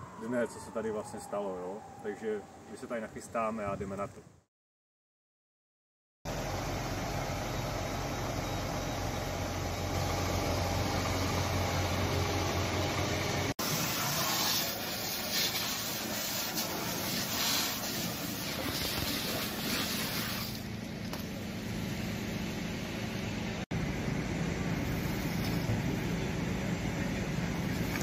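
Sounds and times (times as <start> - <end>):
fire engine droning: 0.0 - 3.0, 6.3 - 28.0.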